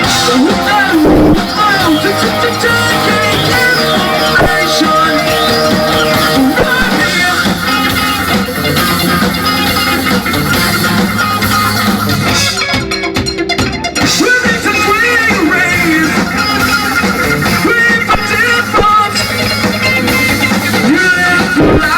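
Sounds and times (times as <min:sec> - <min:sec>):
bass guitar: 0:00.0 - 0:21.9
drum kit: 0:00.0 - 0:21.9
electric guitar: 0:00.0 - 0:21.9.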